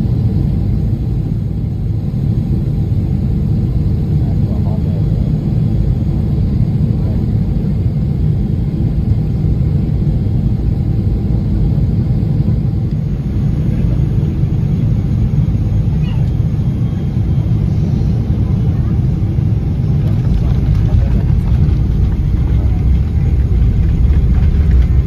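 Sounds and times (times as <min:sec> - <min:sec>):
jet engine cabin rumble: 0:00.0 - 0:25.0.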